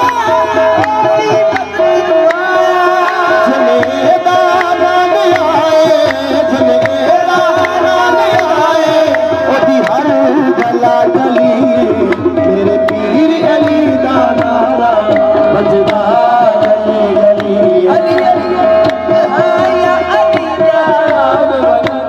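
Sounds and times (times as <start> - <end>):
harmonium holding a note: 0.0 - 22.0
tabla strokes: 0.0 - 22.0.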